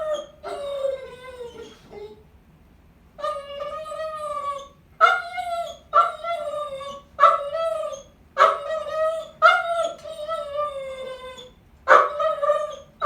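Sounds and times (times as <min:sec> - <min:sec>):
dog baying: 0:00.0 - 0:02.2, 0:03.2 - 0:13.0.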